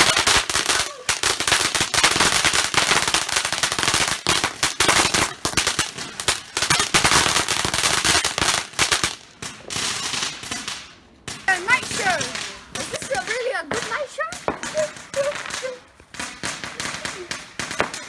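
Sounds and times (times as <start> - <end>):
firework crackling pops and bangs: 0.0 - 18.0.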